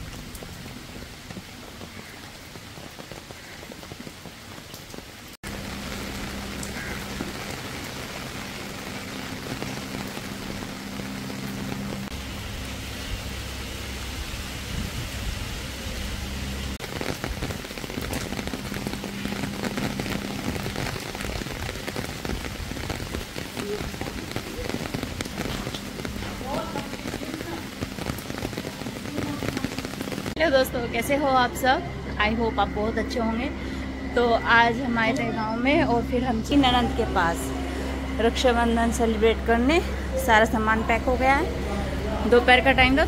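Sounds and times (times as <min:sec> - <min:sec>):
rain falling: 0:00.0 - 0:43.0
low hum: 0:05.4 - 0:43.0.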